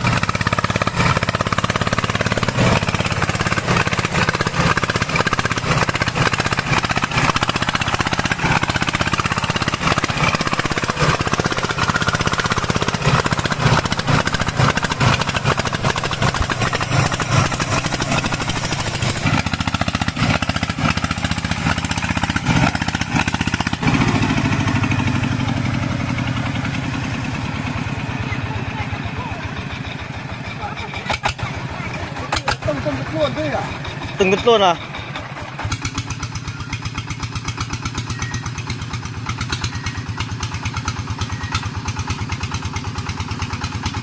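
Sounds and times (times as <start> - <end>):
diesel engine chugging: 0.0 - 44.0.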